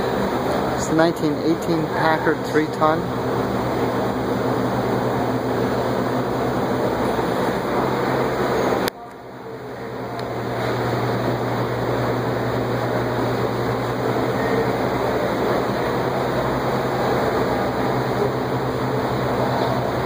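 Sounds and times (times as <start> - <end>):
room noise: 0.0 - 20.0
ventilation hum: 0.0 - 20.0.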